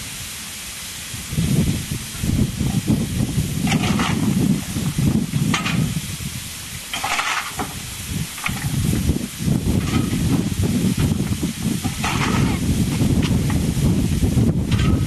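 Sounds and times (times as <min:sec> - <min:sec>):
steam hissing bursts: 0:00.0 - 0:15.0
steam locomotive rumble: 0:00.0 - 0:15.0.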